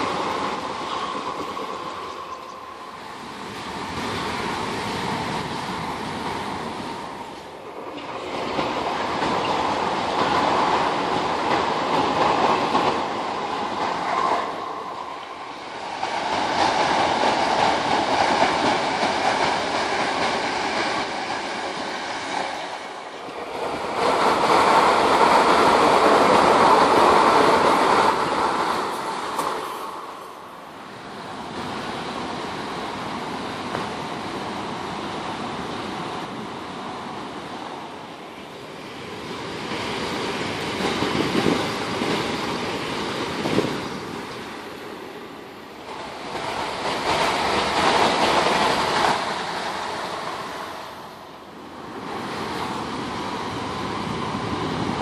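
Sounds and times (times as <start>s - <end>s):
electric trains passing: 0.0s - 55.0s.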